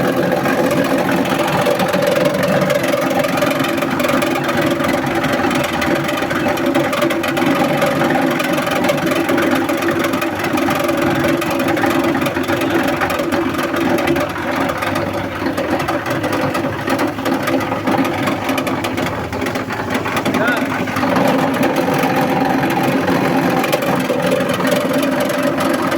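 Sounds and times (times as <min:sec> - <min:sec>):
paper shredding machine running: 0:00.0 - 0:25.9.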